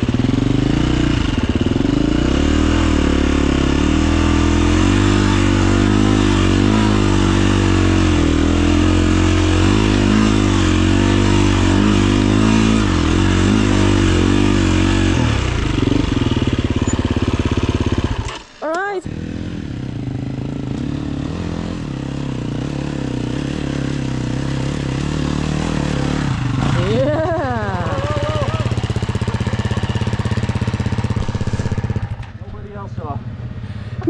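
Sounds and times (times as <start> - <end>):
dirt bike engine revving: 0.0 - 32.4.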